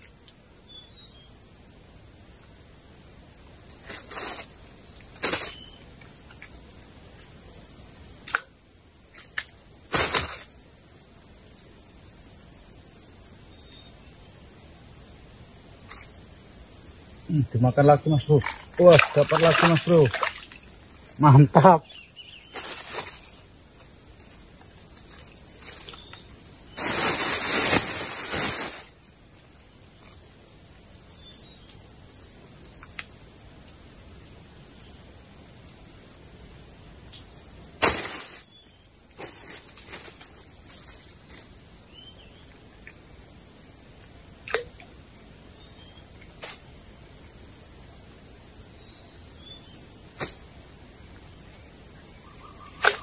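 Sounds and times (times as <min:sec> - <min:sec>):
insects buzzing: 0:00.0 - 0:53.0.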